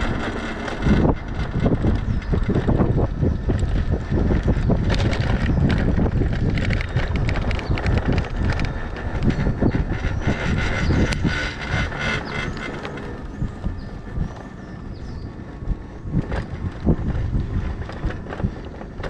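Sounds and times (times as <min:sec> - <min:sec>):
bike rattles and clicks: 0:00.0 - 0:19.0
electric bike rolling on pavement: 0:00.0 - 0:19.0
wind rumble on microphone: 0:00.0 - 0:19.0.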